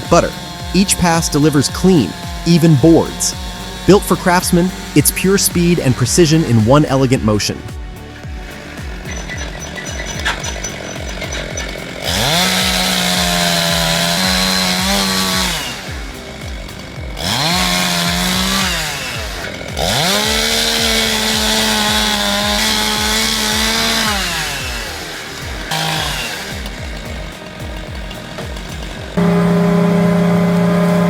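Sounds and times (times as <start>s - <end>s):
small petrol engine revving: 0.0s - 31.0s.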